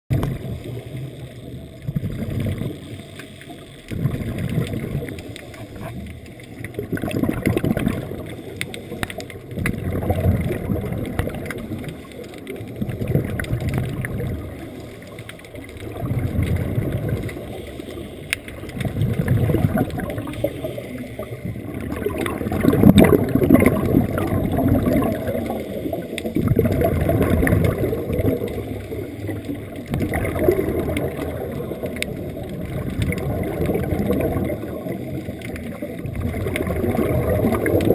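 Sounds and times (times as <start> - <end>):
underwater regulator bubbles: 0.1 - 37.9.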